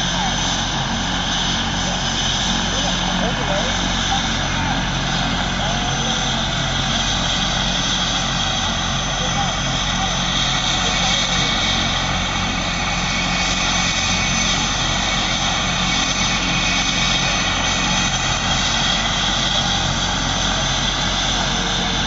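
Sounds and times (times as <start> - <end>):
helicopter rotor noise: 0.0 - 22.0
helicopter turbine whine: 0.0 - 22.0.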